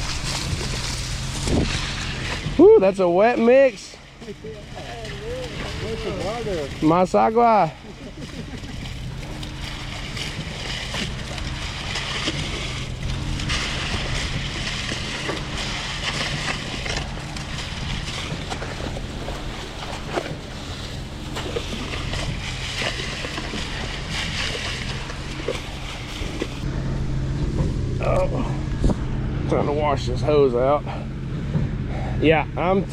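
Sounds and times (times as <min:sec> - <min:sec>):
engine running under load: 0:00.0 - 0:32.9.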